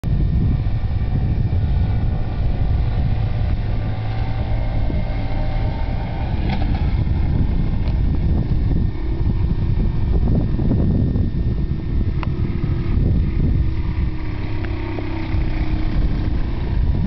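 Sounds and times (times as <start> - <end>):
wind rumble on microphone: 0.0 - 17.0
distant moped engine: 0.1 - 17.0.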